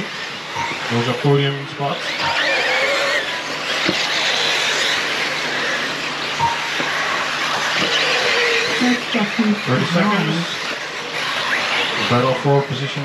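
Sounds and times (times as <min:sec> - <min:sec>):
electric rc cars whining: 0:00.0 - 0:13.0.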